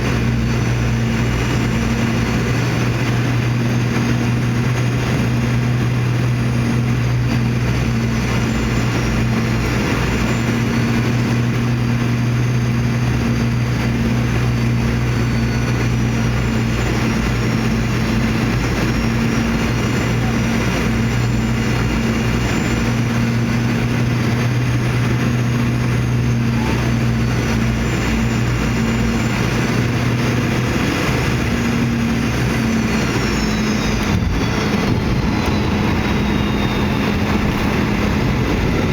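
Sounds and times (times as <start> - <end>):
airplane cabin engine drone: 0.0 - 38.9
faint high engine whines: 0.0 - 38.9.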